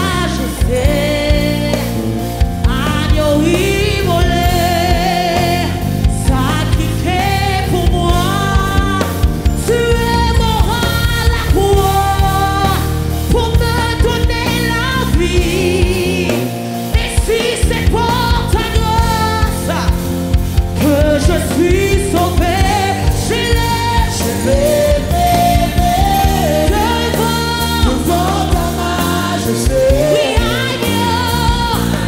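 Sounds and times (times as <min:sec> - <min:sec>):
backing vocals: 0:00.0 - 0:32.0
band with drums and bass: 0:00.0 - 0:32.0
lead singer singing gospel: 0:00.0 - 0:32.0.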